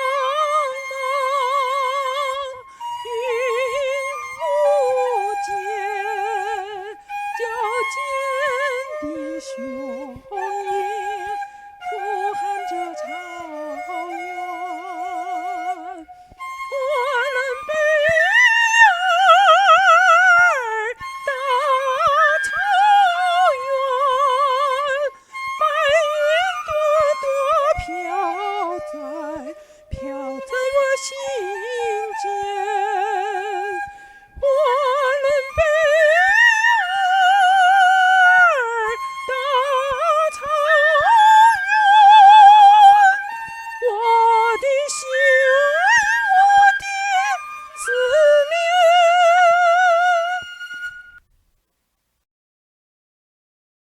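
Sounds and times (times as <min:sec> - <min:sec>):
high operatic singing voice: 0:00.0 - 0:16.1, 0:16.7 - 0:51.2.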